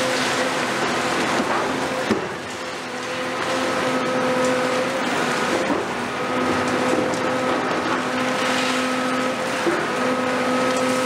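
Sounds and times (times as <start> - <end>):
excavator diesel engine working: 0.0 - 11.0
steady hydraulic whine: 0.0 - 11.0.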